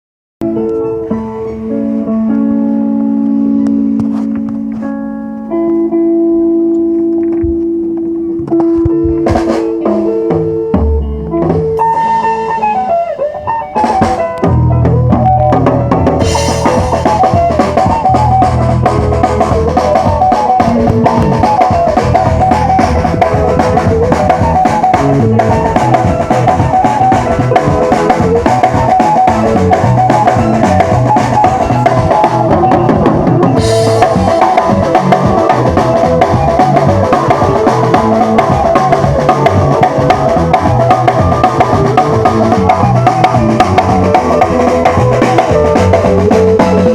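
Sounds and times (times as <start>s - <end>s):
band playing loud: 0.4s - 46.9s
drum kit beat: 7.0s - 46.9s.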